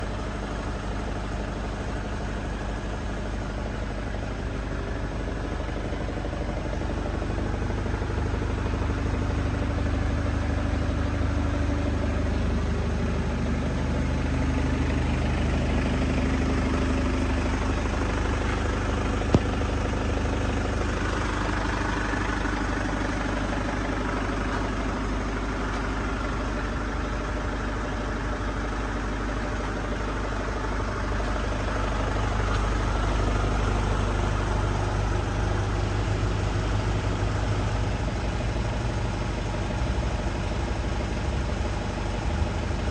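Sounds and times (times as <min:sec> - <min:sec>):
vehicle engine idling: 0:00.0 - 0:42.9.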